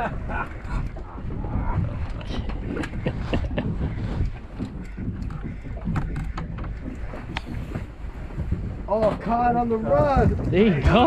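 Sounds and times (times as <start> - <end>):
wind buffeting microphone: 0.0 - 11.0
knocks and clatter: 0.7 - 11.0.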